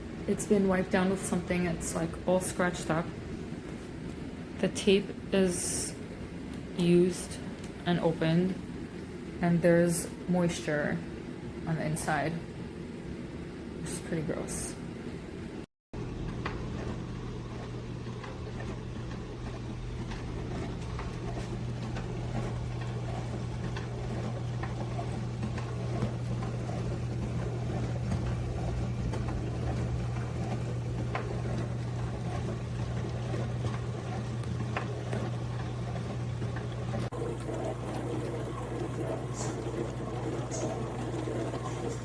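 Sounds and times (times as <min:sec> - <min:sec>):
dishwasher motor humming: 0:00.0 - 0:42.0.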